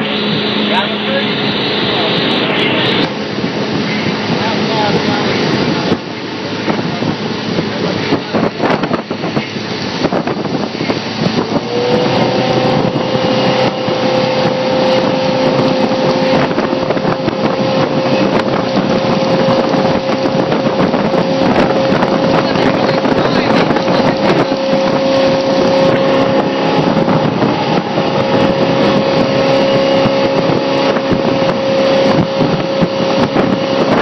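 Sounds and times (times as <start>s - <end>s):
motorboat engine running: 0.0s - 34.0s
water rushing: 0.0s - 34.0s
wind buffeting microphone: 0.0s - 34.0s.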